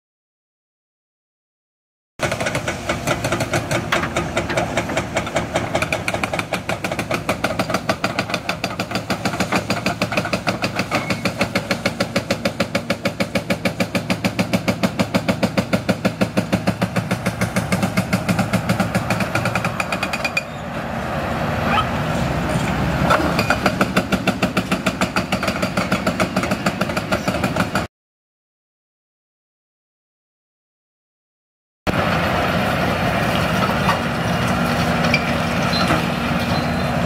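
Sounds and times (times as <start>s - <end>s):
diesel excavator engine running: 2.2s - 27.9s, 31.9s - 37.0s.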